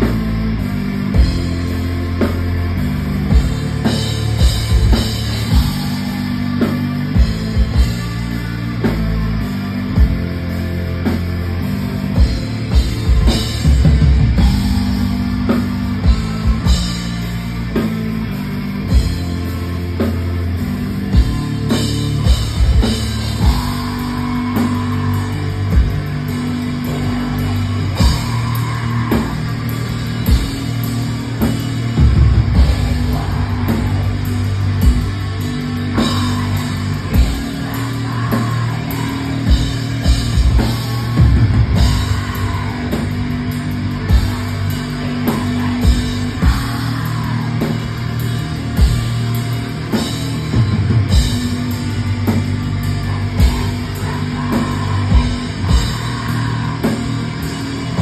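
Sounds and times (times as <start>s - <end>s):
distorted electric guitar chords: 0.0s - 58.0s
drum kit and cymbals: 0.0s - 58.0s.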